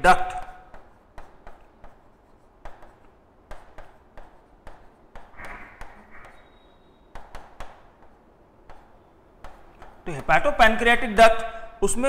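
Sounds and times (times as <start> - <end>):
marker pen writing on whiteboard: 0.0 - 11.2.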